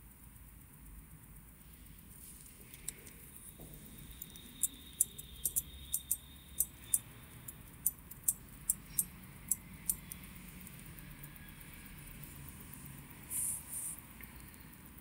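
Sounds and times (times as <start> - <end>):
small metallic clicks: 0.0 - 13.2.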